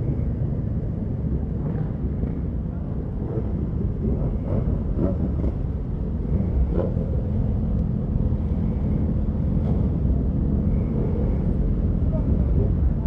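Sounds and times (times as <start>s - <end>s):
motorcycle engines low rumble: 0.0s - 13.0s.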